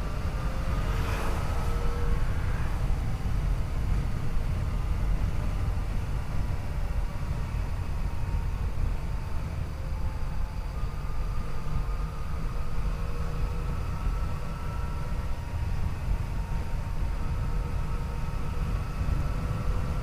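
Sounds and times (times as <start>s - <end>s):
wind rush on microphone: 0.0s - 20.0s.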